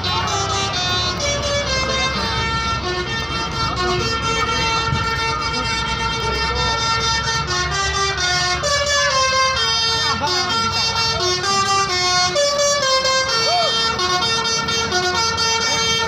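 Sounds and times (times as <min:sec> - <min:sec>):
bus air horn melody: 0:00.0 - 0:16.0
low engine rumble: 0:00.0 - 0:16.0
voices calling out: 0:00.0 - 0:16.0.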